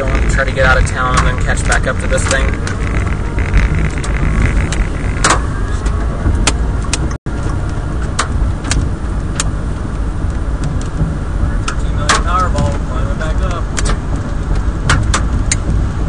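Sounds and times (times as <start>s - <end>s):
rain: 0.0s - 16.0s
road and engine rumble: 0.0s - 16.0s.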